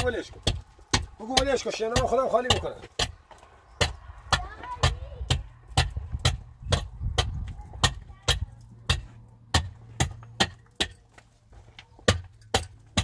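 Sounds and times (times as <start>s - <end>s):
adze striking concrete wall: 0.0s - 11.2s, 12.0s - 13.0s.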